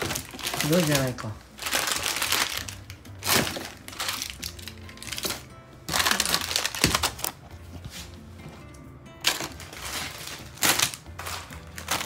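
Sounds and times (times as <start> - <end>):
plastic packaging crinkling: 0.0 - 7.4, 9.2 - 12.0
light background music: 0.0 - 12.0.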